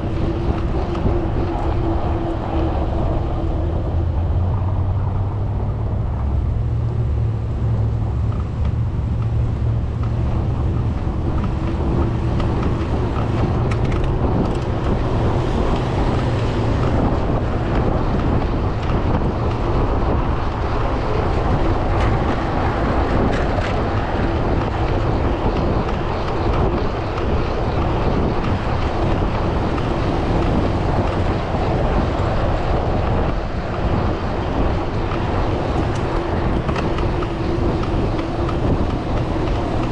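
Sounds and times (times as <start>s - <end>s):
motor traffic: 0.0s - 39.9s
wind on microphone: 0.0s - 39.9s.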